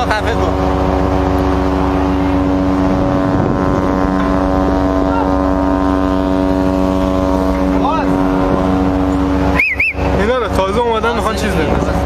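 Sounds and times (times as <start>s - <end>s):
low rumble: 0.0s - 12.0s
ship engine drone: 0.0s - 12.0s
wind on microphone: 0.0s - 12.0s.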